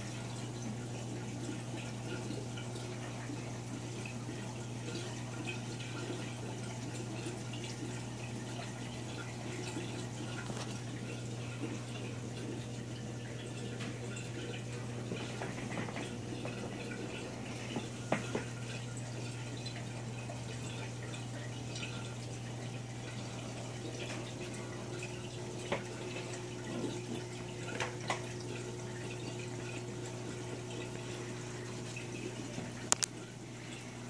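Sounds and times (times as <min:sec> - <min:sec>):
filter low hum: 0:00.0 - 0:34.0
trickling water: 0:00.0 - 0:34.0
short drips or clicks: 0:04.0 - 0:33.8.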